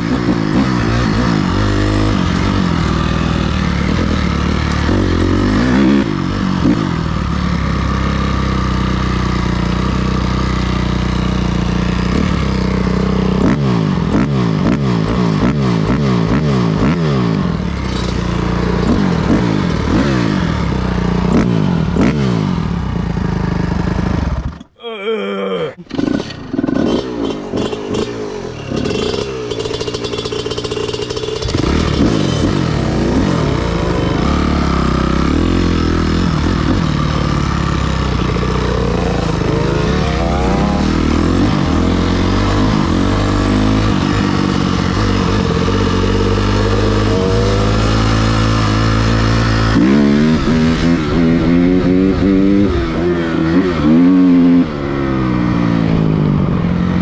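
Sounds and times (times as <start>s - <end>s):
dirt bike engine revving: 0.0s - 24.8s, 25.8s - 57.0s.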